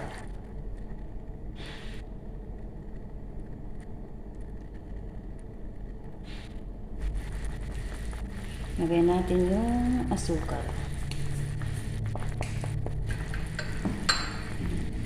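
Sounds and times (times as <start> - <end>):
pot boiling with low bubbling: 0.0 - 15.0.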